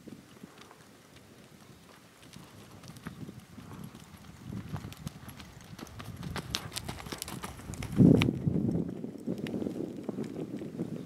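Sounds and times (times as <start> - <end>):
hoofbeats on sand: 0.0 - 11.0.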